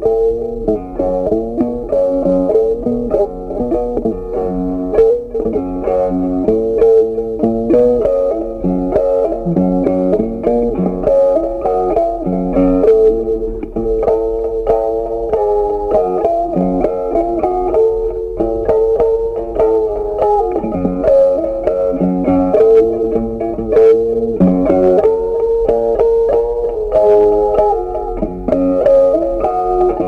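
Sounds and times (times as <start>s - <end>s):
plucked guitar tune with bass: 0.0s - 30.0s.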